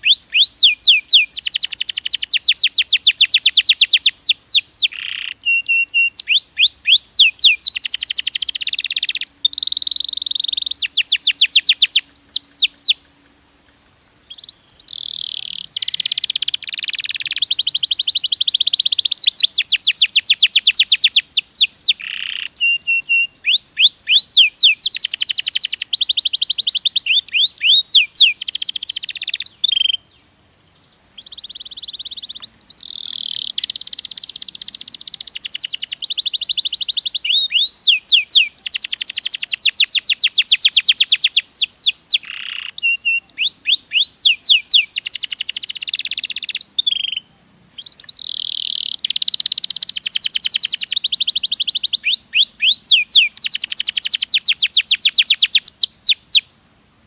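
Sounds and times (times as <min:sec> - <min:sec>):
canary singing trills: 0:00.0 - 0:13.3, 0:14.2 - 0:56.5.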